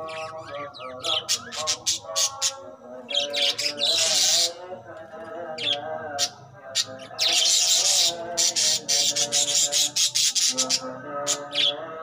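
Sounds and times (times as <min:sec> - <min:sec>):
budgerigars chirping: 0:00.0 - 0:04.6, 0:05.6 - 0:11.8.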